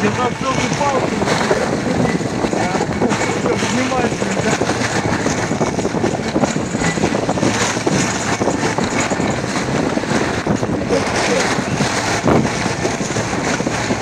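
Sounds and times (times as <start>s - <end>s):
mud and water splashing: 0.0s - 14.0s
wind noise on microphone: 0.0s - 14.0s.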